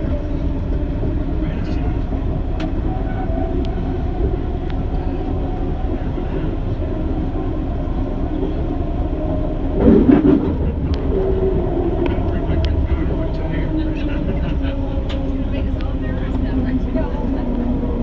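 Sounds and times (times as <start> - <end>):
steel wheels rumbling on rails: 0.0 - 18.0
train motor hum: 0.0 - 18.0.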